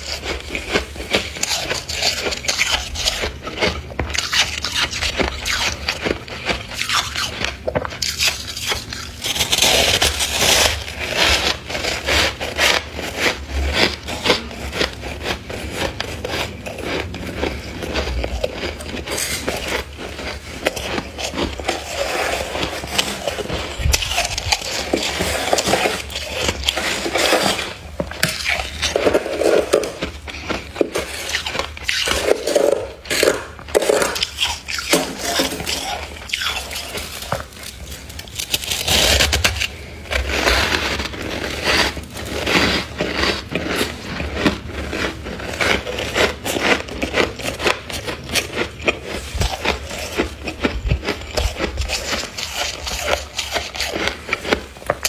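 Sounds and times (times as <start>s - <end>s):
ice scraper crunching frost: 0.0s - 55.0s.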